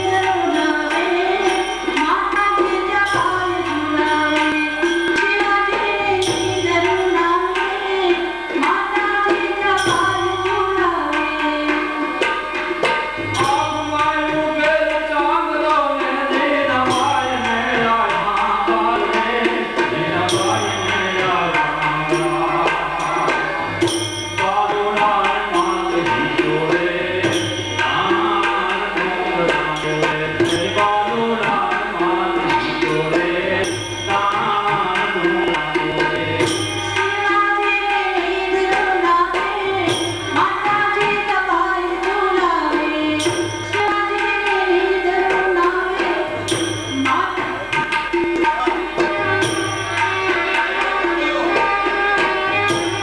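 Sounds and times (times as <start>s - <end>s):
harmonium: 0.0s - 53.0s
percussion strokes: 0.0s - 53.0s.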